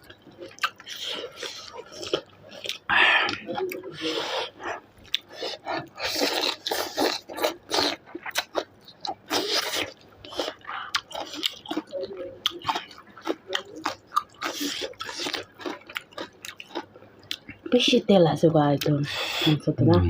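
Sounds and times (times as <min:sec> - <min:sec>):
person chewing: 0:00.0 - 0:17.7.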